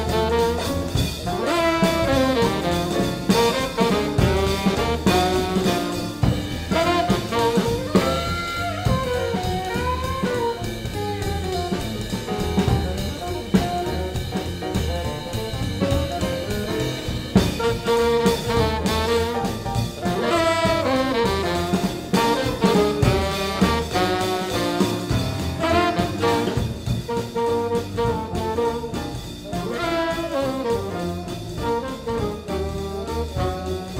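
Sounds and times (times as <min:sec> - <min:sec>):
alto saxophone solo: 0:00.0 - 0:33.9
bass drums and piano: 0:00.0 - 0:33.9
horn section playing: 0:00.0 - 0:33.9.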